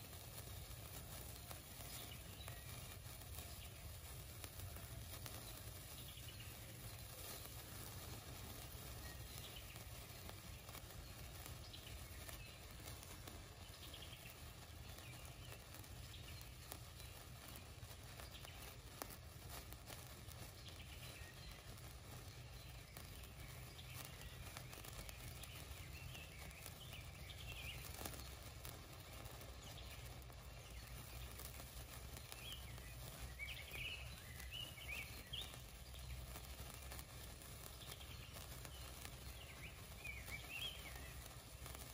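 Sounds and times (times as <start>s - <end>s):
sparkler crackling and fizzing: 0.0s - 41.9s
faint bird chirps: 0.4s - 41.9s.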